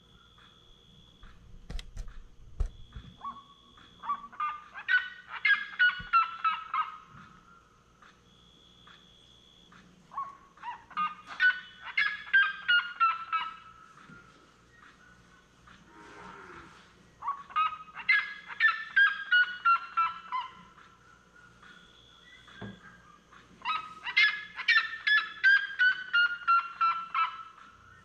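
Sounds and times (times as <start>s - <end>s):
loud repeated bird calls: 0.0s - 28.0s.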